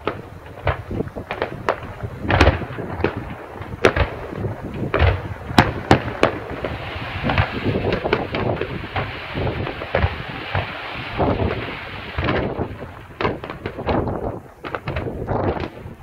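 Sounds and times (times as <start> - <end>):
crackling rumble: 0.0 - 16.0
firework shells bursting: 0.0 - 16.0.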